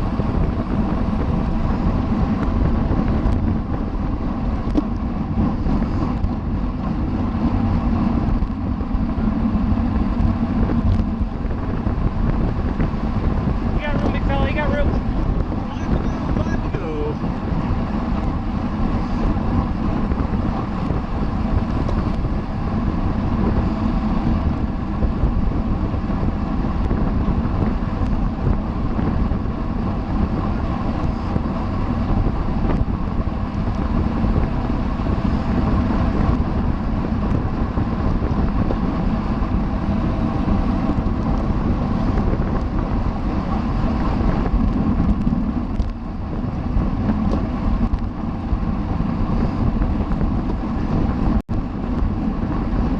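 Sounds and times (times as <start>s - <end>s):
tyre and road noise: 0.0s - 52.9s
wind rushing over microphone: 0.0s - 52.9s.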